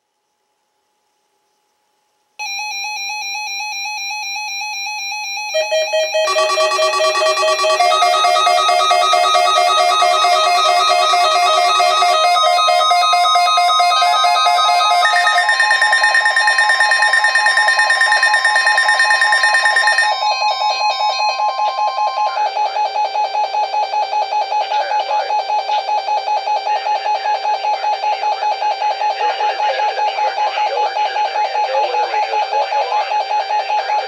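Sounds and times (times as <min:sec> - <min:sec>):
weather radio alarm beeps: 0:05.6 - 0:34.0.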